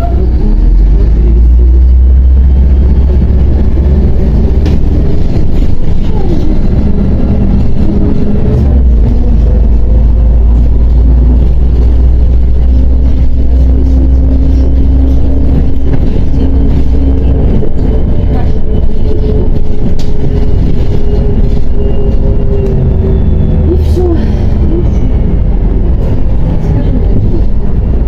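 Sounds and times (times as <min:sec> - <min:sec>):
bus diesel engine droning: 0:00.0 - 0:28.0.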